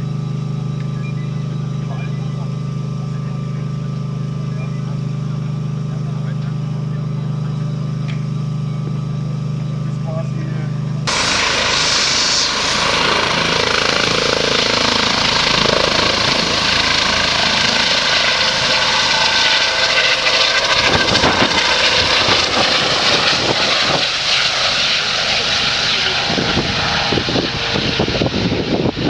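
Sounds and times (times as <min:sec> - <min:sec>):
helicopter engine and rotor: 0:00.0 - 0:29.0
high turbine whine: 0:00.0 - 0:29.0.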